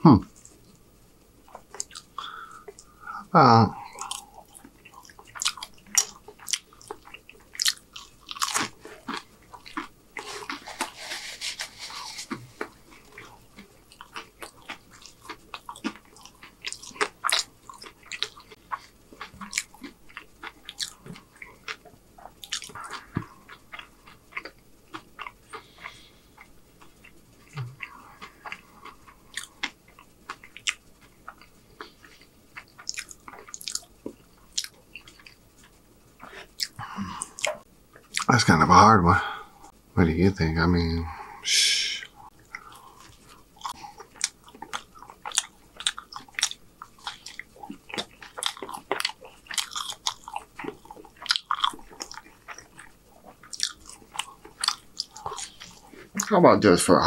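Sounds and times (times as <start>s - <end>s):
person chewing food: 1.4s - 38.3s, 42.0s - 56.3s.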